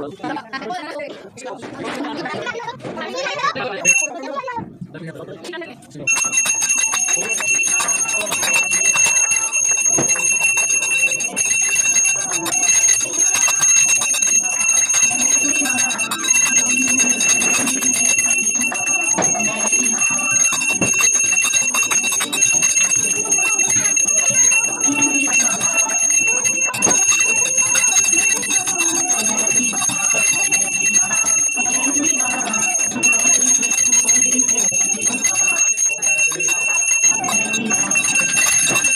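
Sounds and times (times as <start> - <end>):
hand bell ringing rapidly: 3.8 - 4.1, 6.1 - 38.9.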